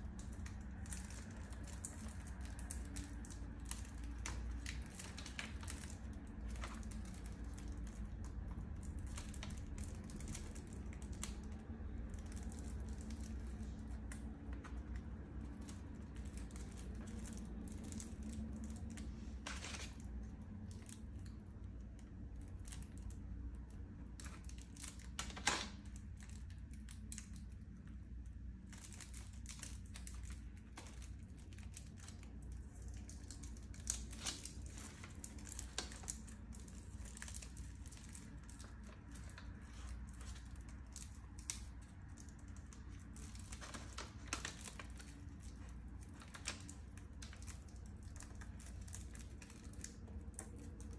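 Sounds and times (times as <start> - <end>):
low steady hum: 0.0 - 50.9
plastic crinkling: 0.0 - 50.9.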